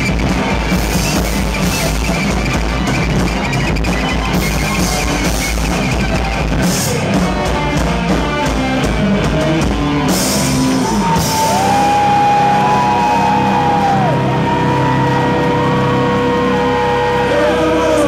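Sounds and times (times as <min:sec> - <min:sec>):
drum kit: 0:00.0 - 0:18.0
electric guitar: 0:00.0 - 0:18.0.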